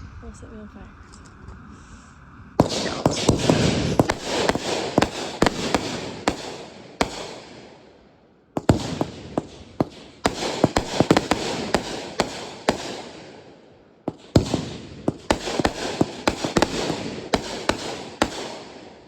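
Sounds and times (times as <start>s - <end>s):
fireworks crackling and banging: 2.6s - 19.0s.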